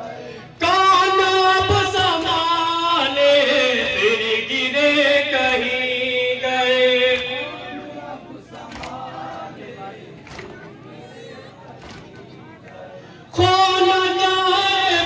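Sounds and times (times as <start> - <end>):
man chanting a lament: 0.0 - 10.0, 12.4 - 15.0.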